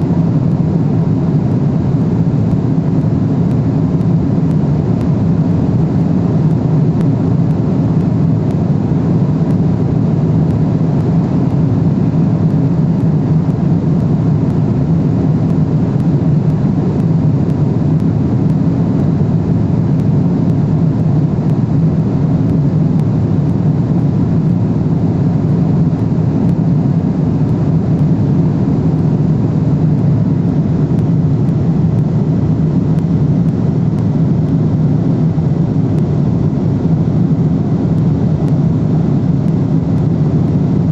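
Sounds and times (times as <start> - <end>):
airliner cabin engine noise: 0.0 - 40.9.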